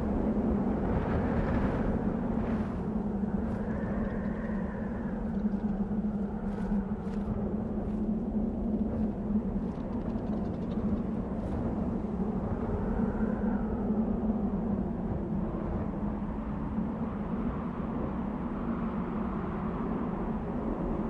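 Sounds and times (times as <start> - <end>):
wind blowing with whistle: 0.0 - 21.0.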